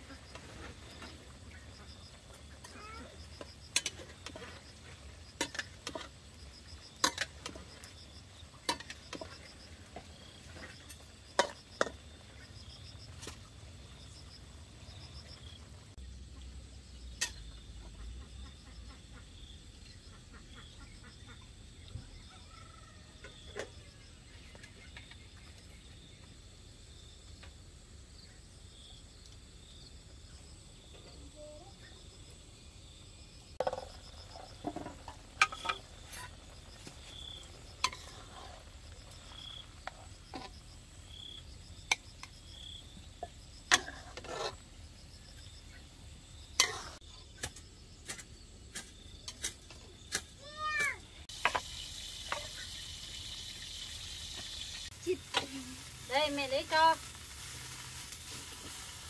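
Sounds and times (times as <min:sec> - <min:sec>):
crickets chirping: 0:00.0 - 0:17.8, 0:18.4 - 0:59.0.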